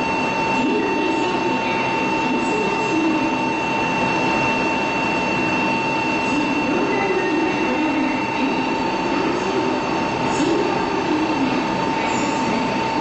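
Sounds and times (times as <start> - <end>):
constant whining tones: 0.0 - 13.0.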